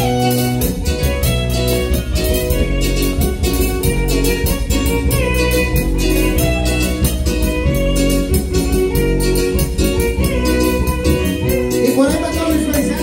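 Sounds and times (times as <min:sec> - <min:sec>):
live band playing latin dance music: 0:00.0 - 0:13.0.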